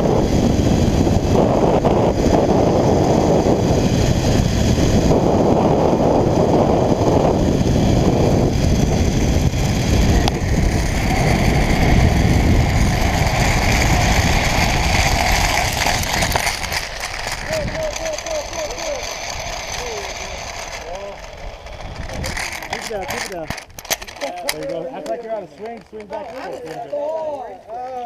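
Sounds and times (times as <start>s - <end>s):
wind on microphone: 0.0s - 18.4s, 19.2s - 23.8s
zipline pulleys whining: 0.0s - 26.9s.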